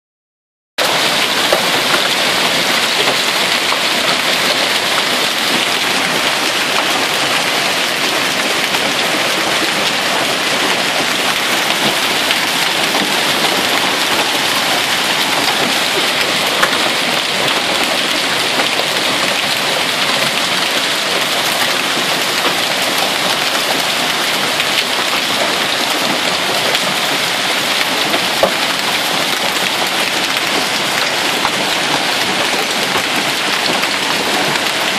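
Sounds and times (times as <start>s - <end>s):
hail falling on ground: 0.8s - 34.9s.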